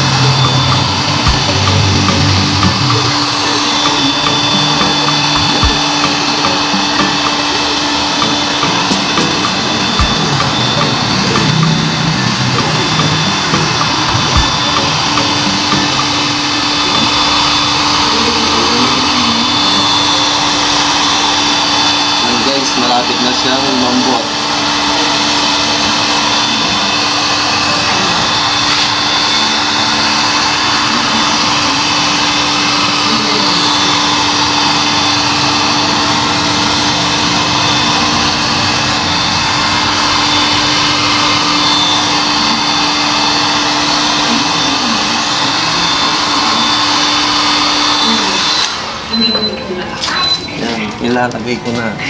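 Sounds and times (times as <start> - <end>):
fan motor hum: 0.0 - 49.1
heat gun blowing air: 0.0 - 49.1.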